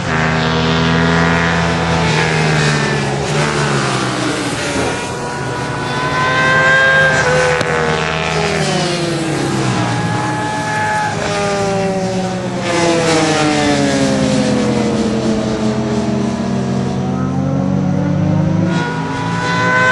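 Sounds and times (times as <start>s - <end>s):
distant engine drone: 0.0s - 19.9s
racing motorcycles passing: 0.0s - 19.9s.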